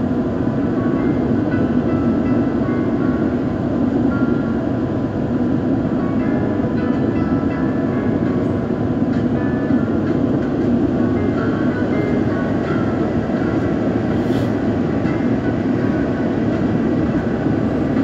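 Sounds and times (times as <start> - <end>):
airliner engine roar in cabin: 0.0 - 18.0.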